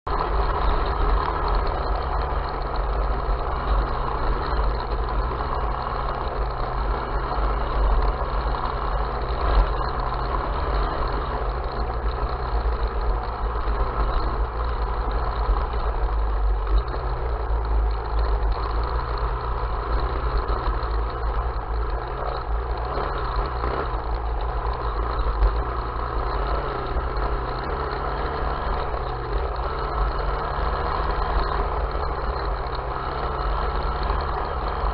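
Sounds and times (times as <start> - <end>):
vehicle engine running steadily: 0.0 - 34.9.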